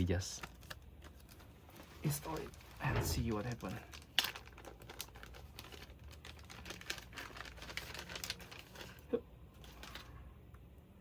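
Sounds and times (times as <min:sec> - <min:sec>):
plastic crinkling: 0:00.4 - 0:10.2.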